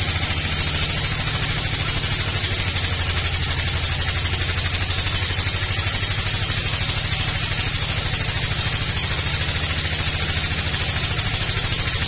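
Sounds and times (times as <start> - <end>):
band saw machine drone: 0.0 - 12.0.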